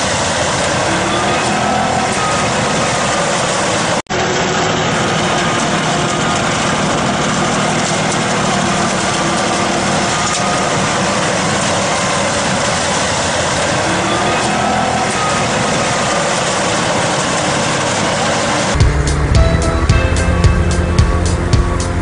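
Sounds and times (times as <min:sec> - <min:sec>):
snow blower throwing snow: 0:00.0 - 0:22.0
tractor engine running under load: 0:00.0 - 0:22.0.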